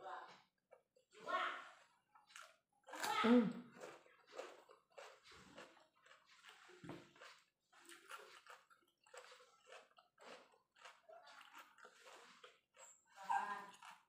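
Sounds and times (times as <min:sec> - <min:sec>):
person chewing: 0:01.6 - 0:14.0.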